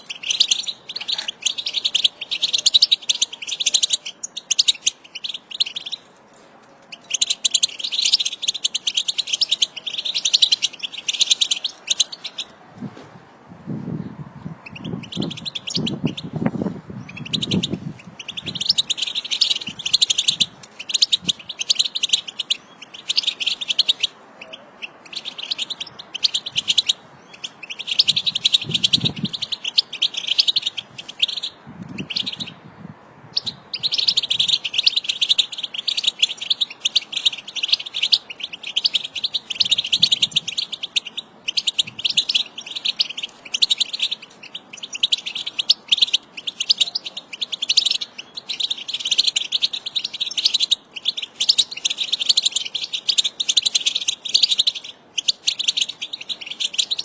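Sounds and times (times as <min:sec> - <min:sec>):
finches twittering: 0:00.0 - 0:06.0, 0:06.9 - 0:12.5, 0:14.7 - 0:16.4, 0:17.0 - 0:32.6, 0:33.4 - 0:57.0.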